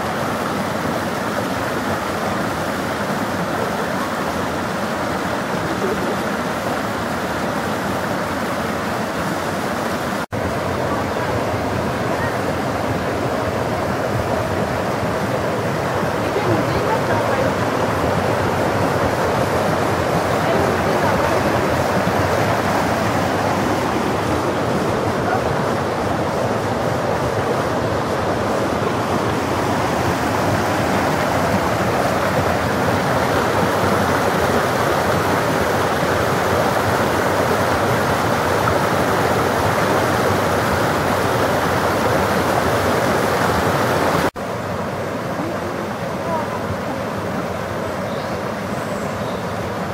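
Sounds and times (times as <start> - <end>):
stream rushing over cascade: 0.0 - 49.9.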